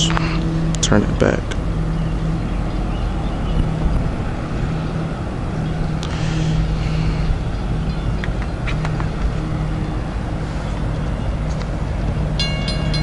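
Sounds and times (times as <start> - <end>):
diesel locomotive engine humming: 0.0 - 13.0
train rumble: 0.0 - 13.0.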